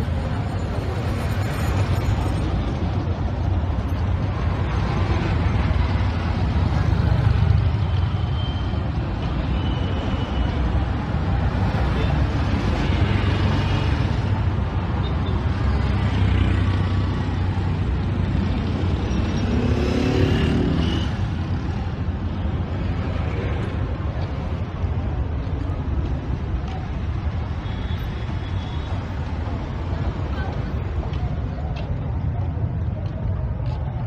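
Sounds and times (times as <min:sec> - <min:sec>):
people talking on street: 0:00.0 - 0:34.0
traffic engines rumbling: 0:00.0 - 0:34.0.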